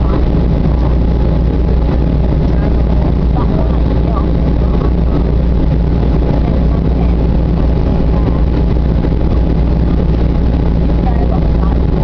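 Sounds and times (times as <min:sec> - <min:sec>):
jet engine rumble in cabin: 0:00.0 - 0:12.0.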